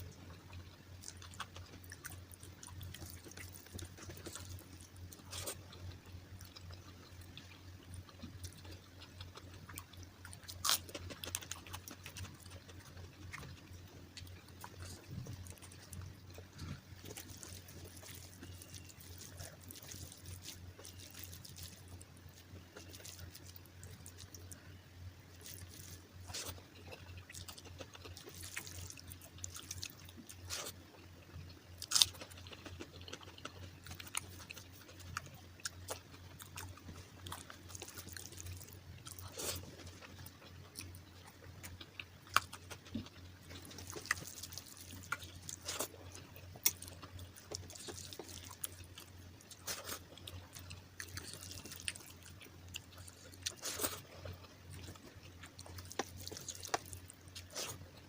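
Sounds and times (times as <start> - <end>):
low steady hum: 0.0 - 58.0
person chewing: 0.0 - 58.0.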